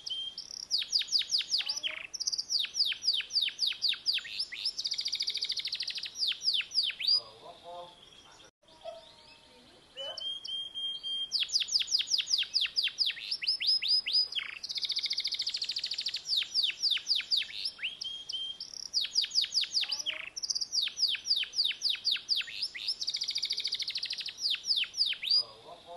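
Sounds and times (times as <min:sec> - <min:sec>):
canary singing: 0:00.0 - 0:25.9.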